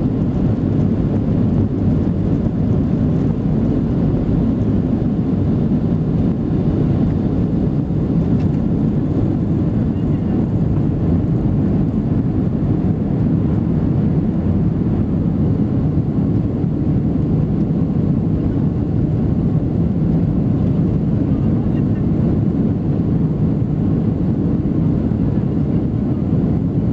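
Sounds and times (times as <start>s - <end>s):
airplane cabin rumble: 0.0s - 26.9s.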